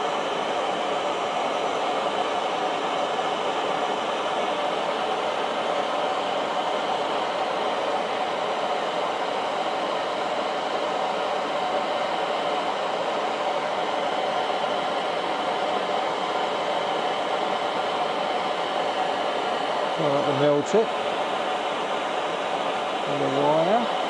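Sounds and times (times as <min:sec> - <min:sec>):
blowtorch flame hissing: 0:00.0 - 0:24.0.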